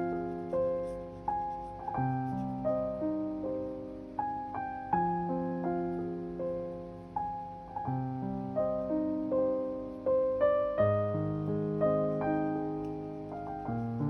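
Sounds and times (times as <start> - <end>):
gentle solo piano: 0.0 - 14.0.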